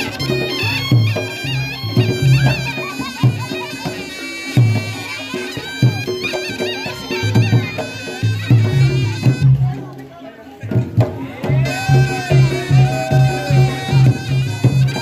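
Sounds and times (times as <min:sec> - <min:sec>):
drum strokes: 0:00.0 - 0:15.0
shawm playing wavering melody: 0:00.0 - 0:15.0.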